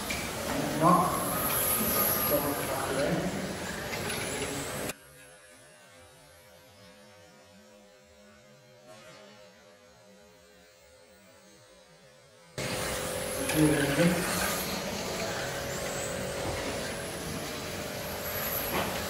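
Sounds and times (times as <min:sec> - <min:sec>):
electric toy cars racing: 0:00.0 - 0:19.0.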